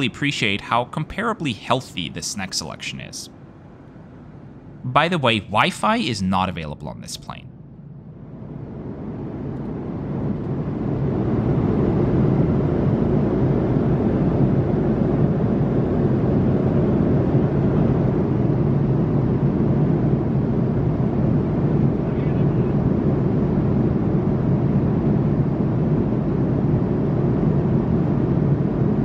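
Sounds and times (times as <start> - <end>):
aircraft cabin engine rumble: 0.0 - 29.0.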